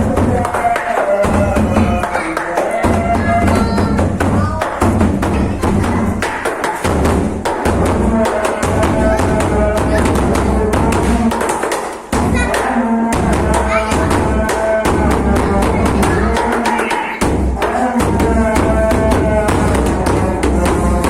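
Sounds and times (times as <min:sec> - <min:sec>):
loud drum-driven music: 0:00.0 - 0:21.0.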